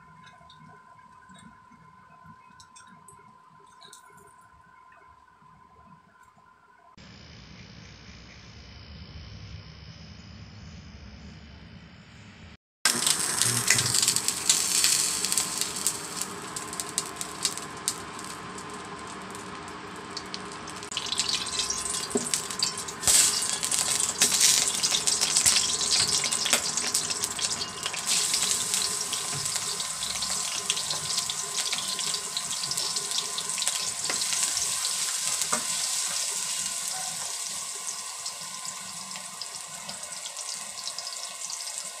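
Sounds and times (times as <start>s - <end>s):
oil sizzling and popping: 0.0s - 5.1s, 12.8s - 42.0s.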